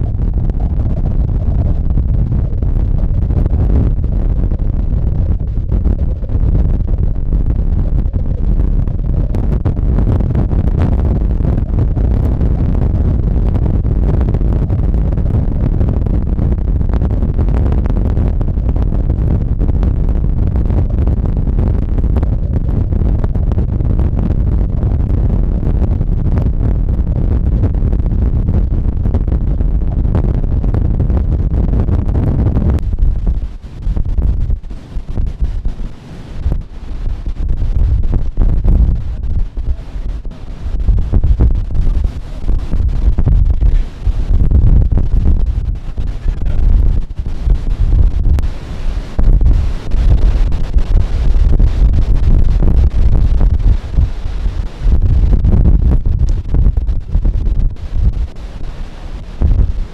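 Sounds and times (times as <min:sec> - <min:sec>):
storm wind buffeting microphone: 0:00.0 - 0:59.9.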